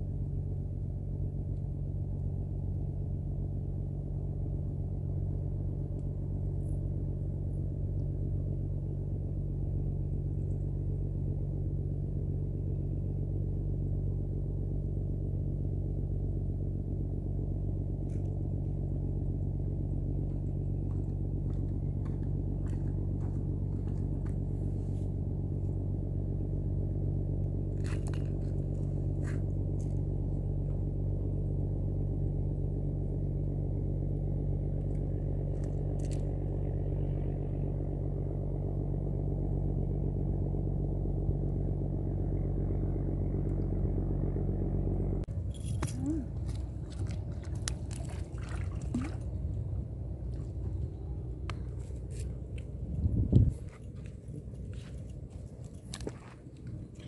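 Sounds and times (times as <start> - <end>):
low motor drone: 0.0 - 57.0.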